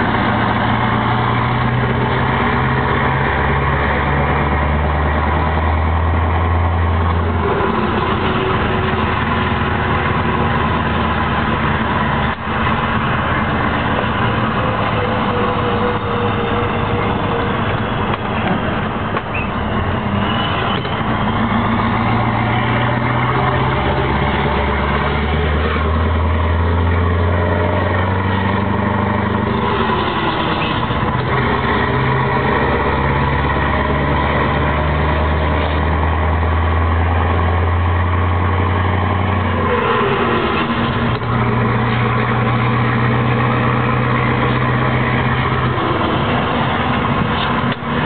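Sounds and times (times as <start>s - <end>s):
diesel truck engine droning: 0.0s - 48.0s.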